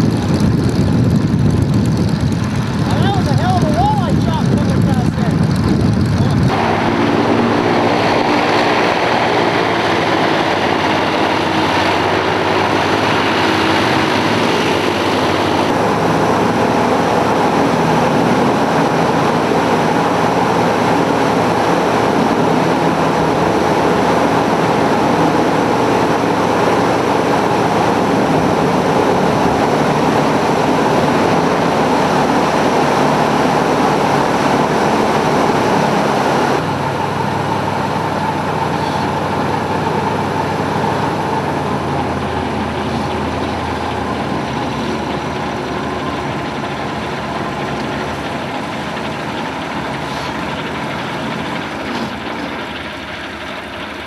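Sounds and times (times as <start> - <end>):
airboat engine and propeller: 0.0 - 54.0.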